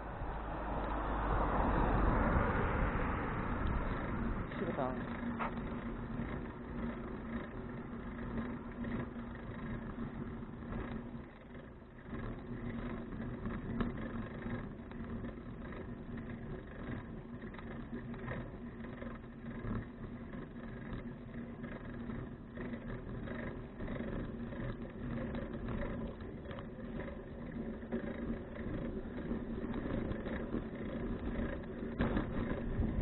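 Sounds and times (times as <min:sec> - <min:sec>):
bicycle tyres rumbling on road: 0:00.0 - 0:33.0.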